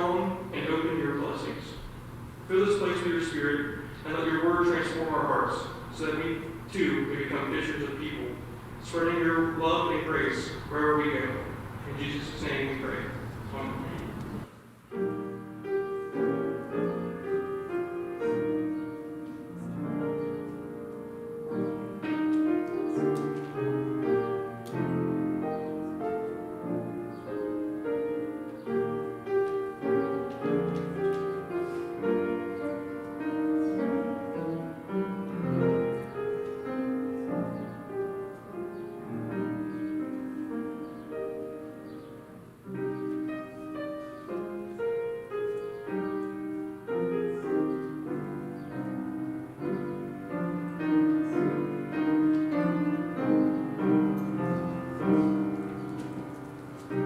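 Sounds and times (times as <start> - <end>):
piano piece: 0.0 - 57.0.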